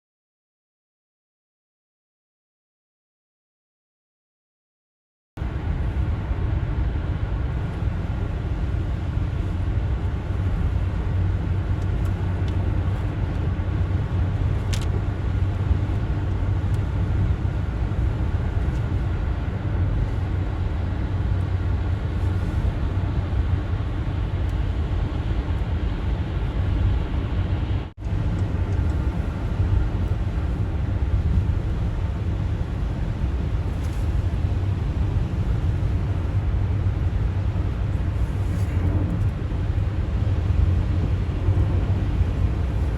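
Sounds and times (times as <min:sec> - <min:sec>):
car engine and tyre rumble: 0:05.4 - 0:42.9.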